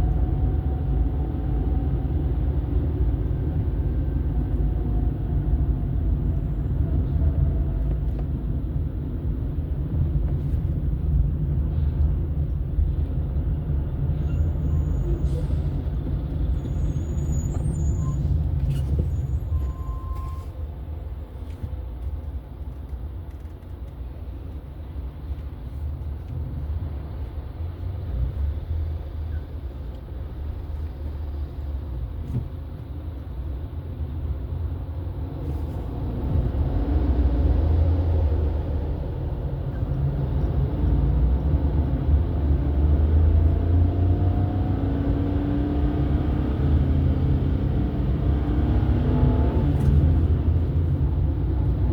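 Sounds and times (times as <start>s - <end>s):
car engine: 0.0s - 51.9s
road noise: 0.0s - 51.9s.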